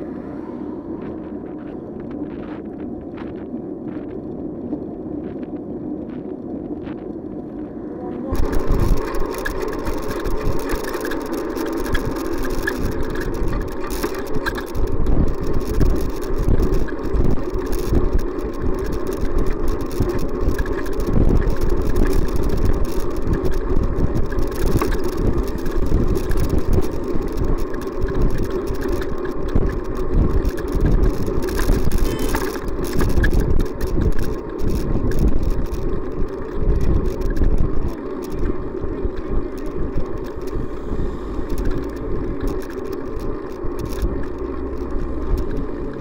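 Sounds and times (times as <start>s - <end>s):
bicycle road rumble: 0.0s - 46.0s
wind buffeting: 0.0s - 46.0s
car engines running: 7.6s - 46.0s.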